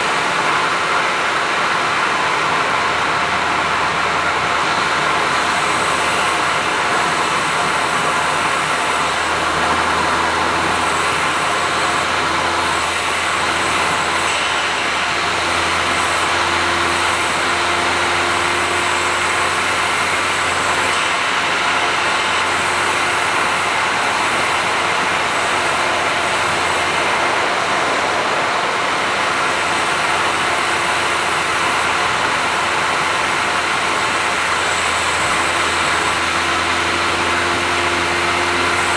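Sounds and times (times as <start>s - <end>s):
car engine droning at cruise: 0.0s - 38.9s
tyre and road noise: 0.0s - 38.9s.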